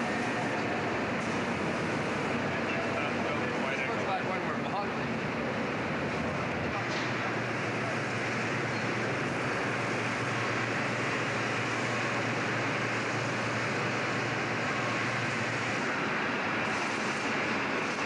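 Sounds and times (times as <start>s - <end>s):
machinery rushing noise: 0.0s - 18.0s.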